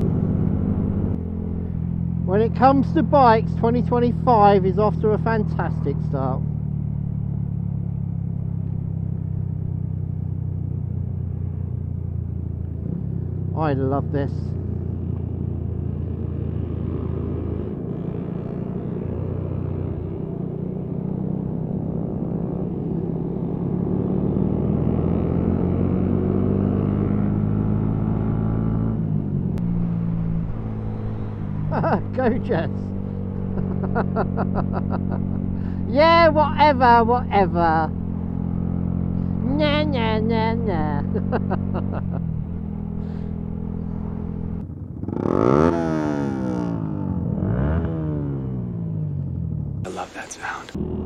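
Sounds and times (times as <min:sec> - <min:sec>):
motorcycle engine running: 0:00.0 - 0:47.3.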